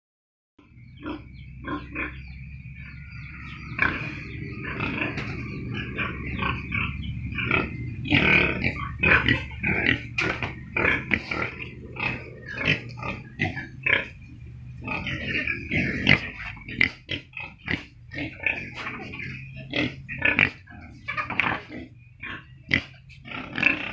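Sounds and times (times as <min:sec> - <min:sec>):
low hum: 0:00.6 - 0:23.1
young pigs grunting: 0:00.6 - 0:23.9.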